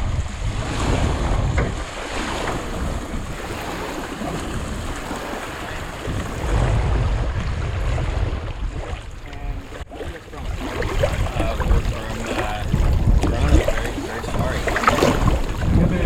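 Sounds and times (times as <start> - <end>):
water lapping: 0.0 - 16.0
wind buffeting microphone: 0.0 - 16.0.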